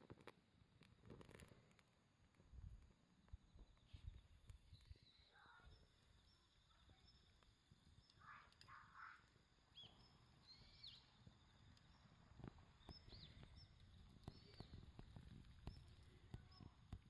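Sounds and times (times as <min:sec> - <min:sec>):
soft crackles and clicks: 0:00.0 - 0:17.0
faint bird chirps: 0:03.2 - 0:17.0.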